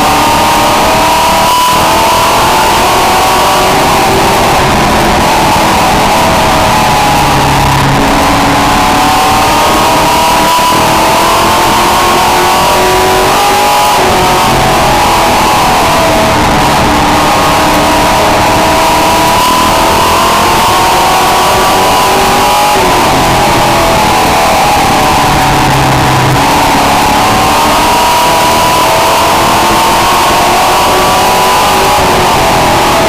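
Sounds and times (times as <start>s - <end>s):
race truck engine revving: 0.0s - 33.0s.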